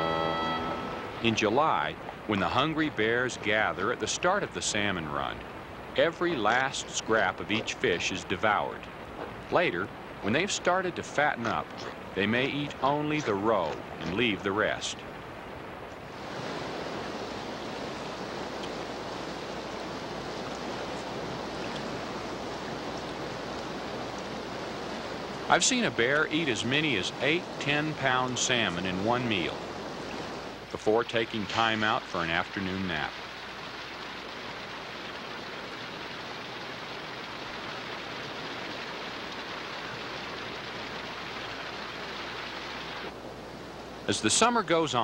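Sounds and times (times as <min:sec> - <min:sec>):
river rushing over rocks: 0:00.0 - 0:45.0.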